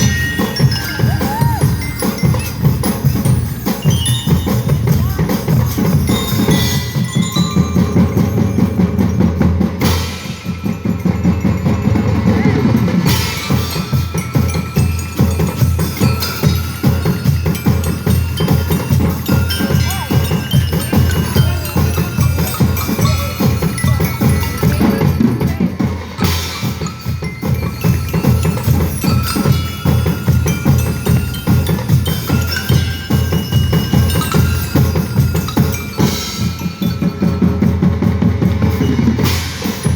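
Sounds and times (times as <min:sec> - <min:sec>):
bell-like melody: 0:00.0 - 0:39.9
drums and percussion beat: 0:00.0 - 0:39.9.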